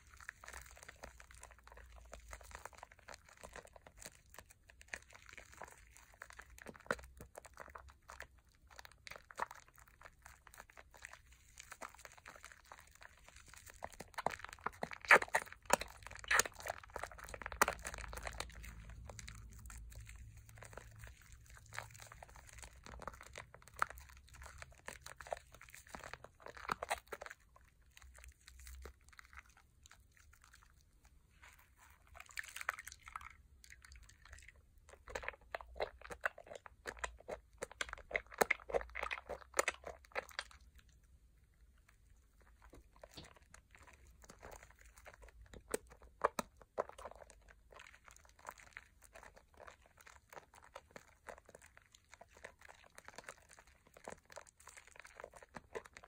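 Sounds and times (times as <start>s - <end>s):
hands squishing soap lather: 0.0s - 56.0s.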